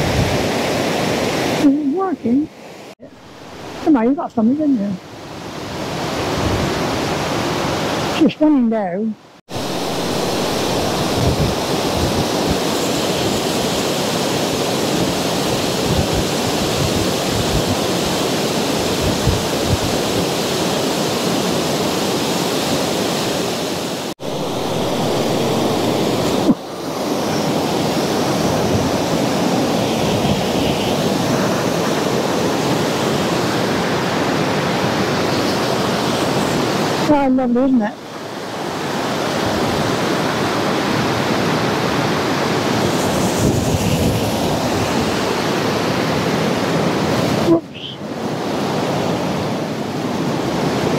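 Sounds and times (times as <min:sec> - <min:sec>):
fast river water rushing: 0:00.0 - 0:01.9, 0:02.5 - 0:08.3, 0:09.2 - 0:37.1, 0:37.9 - 0:50.9.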